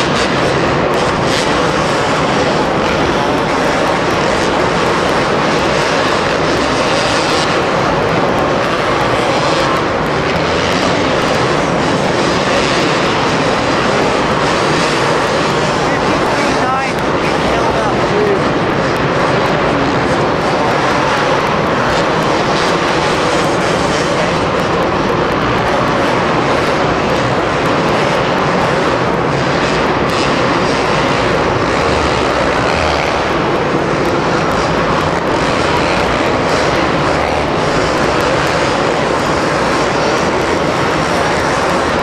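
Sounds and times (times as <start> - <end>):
motorbike engines racing: 0.0 - 42.0.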